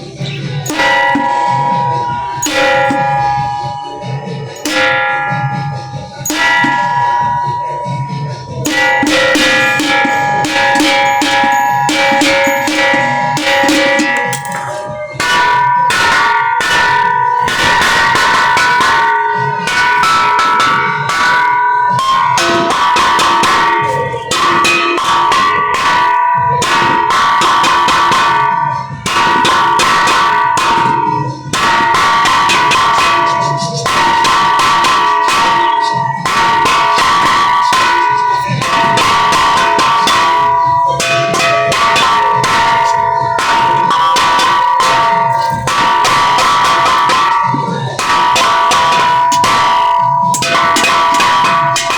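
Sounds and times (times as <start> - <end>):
bells pealing: 0.0 - 51.9.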